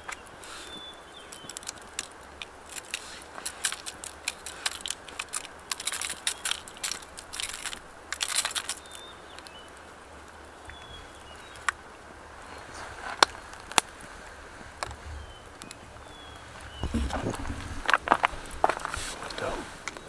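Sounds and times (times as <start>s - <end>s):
aluminium foil crinkling: 0.0s - 9.8s, 12.4s - 20.0s.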